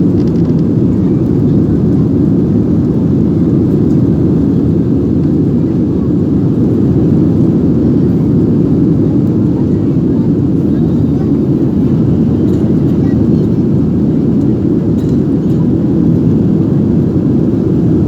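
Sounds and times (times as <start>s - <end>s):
airliner engines low rumble: 0.0s - 18.0s.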